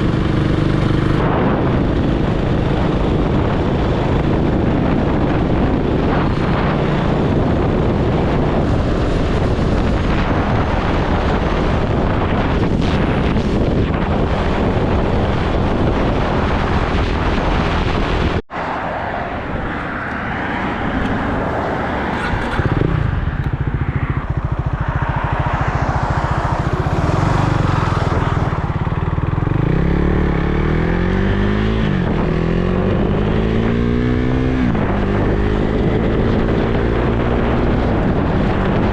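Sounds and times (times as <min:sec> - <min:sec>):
motorcycle engine accelerating: 0:00.0 - 0:18.4, 0:19.6 - 0:38.9
steady rushing noise: 0:00.0 - 0:38.9.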